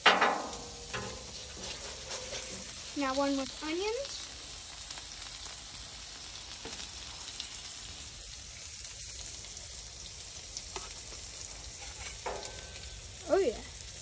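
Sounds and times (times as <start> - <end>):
burgers sizzling on a griddle: 0.0 - 14.0.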